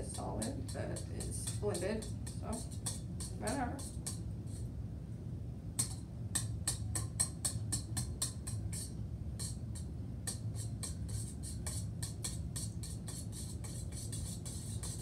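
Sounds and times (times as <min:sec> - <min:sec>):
wire whisk clicking against bowl: 0:00.0 - 0:04.2, 0:05.8 - 0:15.0.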